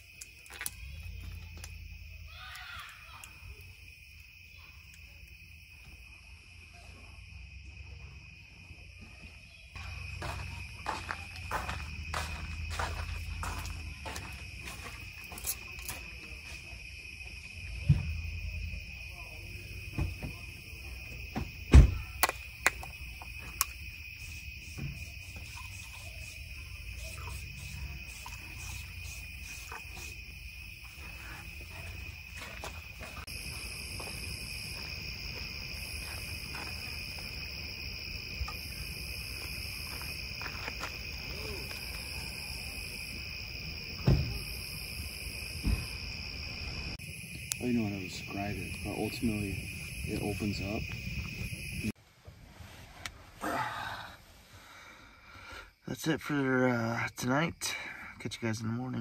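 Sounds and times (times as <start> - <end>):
higher pulsing insect call: 0.0 - 52.0
night insect chorus trilling: 0.0 - 52.0, 52.9 - 59.0.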